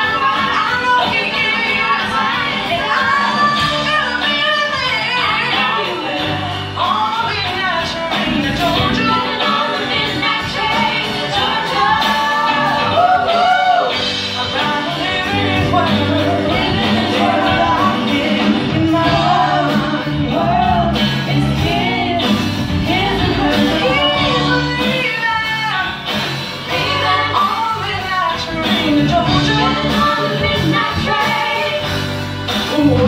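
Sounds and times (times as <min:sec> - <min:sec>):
drum kit: 0:00.0 - 0:33.0
electric guitars: 0:00.0 - 0:33.0
woman singing: 0:00.0 - 0:33.0.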